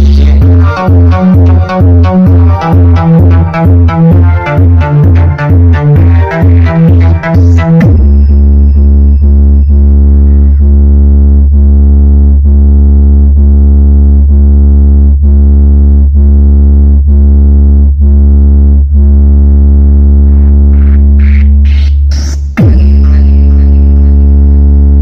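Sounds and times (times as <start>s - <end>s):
distorted synth bass tone: 0.0s - 25.0s.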